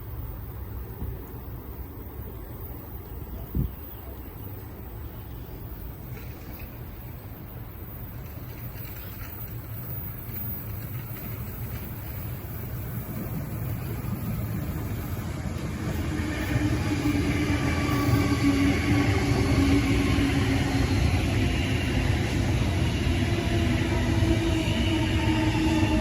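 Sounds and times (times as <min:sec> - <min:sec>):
train rumble: 0:00.0 - 0:26.0
train whine: 0:00.0 - 0:26.0.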